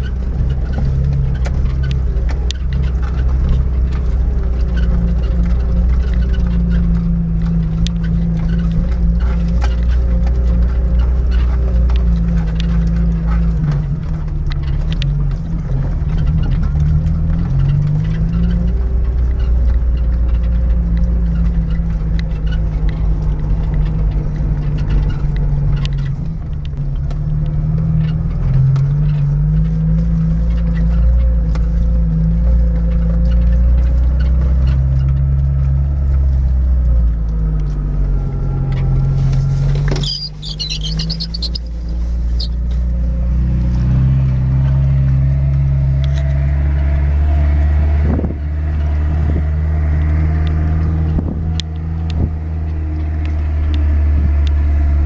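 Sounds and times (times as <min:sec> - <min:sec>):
car engine climbing: 0:00.0 - 0:55.0.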